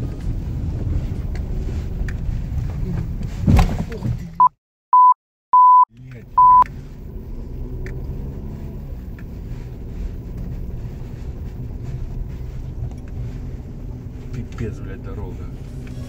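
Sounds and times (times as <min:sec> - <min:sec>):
car interior rumble on dirt road: 0:00.0 - 0:04.5, 0:05.9 - 0:16.0.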